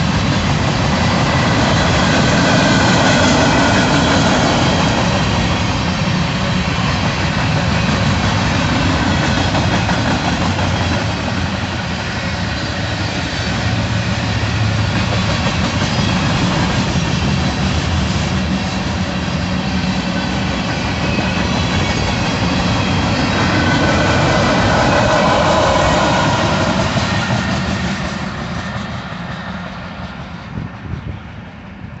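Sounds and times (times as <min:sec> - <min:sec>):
freight train rolling past: 0:00.0 - 0:32.0.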